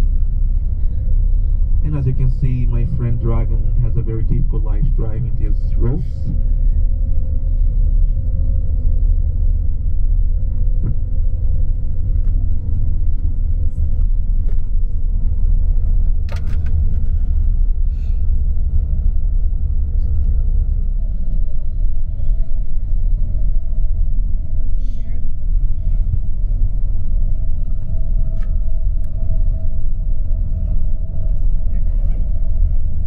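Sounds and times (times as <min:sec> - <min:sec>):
bus engine and road rumble: 0:00.0 - 0:33.0
faint whine: 0:00.0 - 0:33.0.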